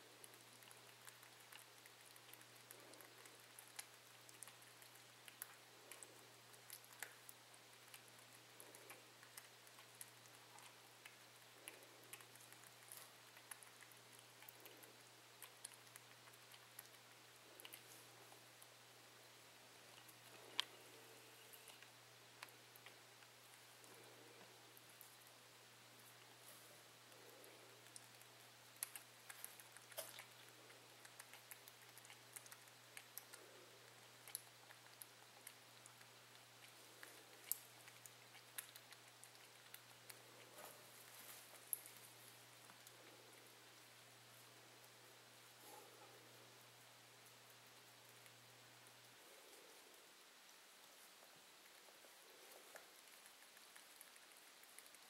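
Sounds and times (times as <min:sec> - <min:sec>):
faint steady hum: 0:00.0 - 0:55.0
rabbit suckling wet clicks: 0:00.0 - 0:55.0.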